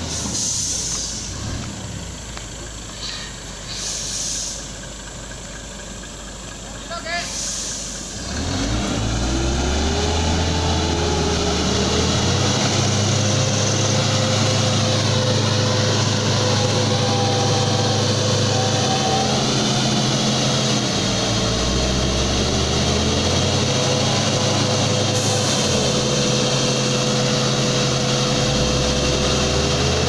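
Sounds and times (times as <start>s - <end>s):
vehicle engine droning: 0.0s - 30.0s.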